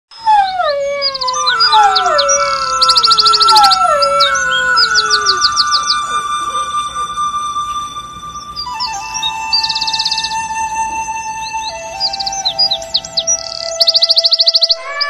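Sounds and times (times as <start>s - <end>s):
falling whistled glides: 0.1s - 15.0s
bird-like chirps and trills: 0.2s - 15.0s.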